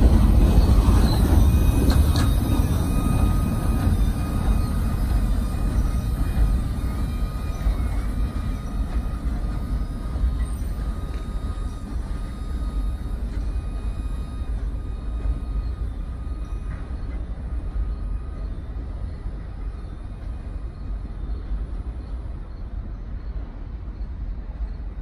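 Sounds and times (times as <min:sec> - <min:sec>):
freight train rumble: 0:00.0 - 0:25.0.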